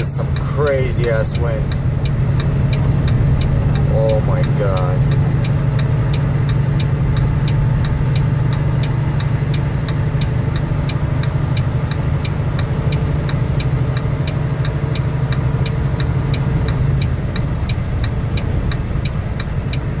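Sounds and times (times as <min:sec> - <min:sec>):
even ticking: 0:00.0 - 0:20.0
truck engine and road drone: 0:00.0 - 0:20.0.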